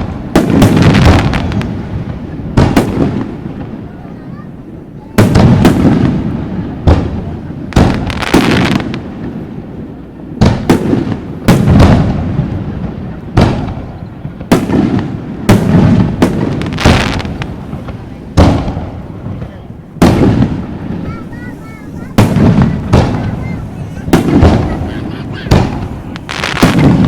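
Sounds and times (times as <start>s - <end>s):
fireworks bursting with echoes: 0.0s - 27.0s.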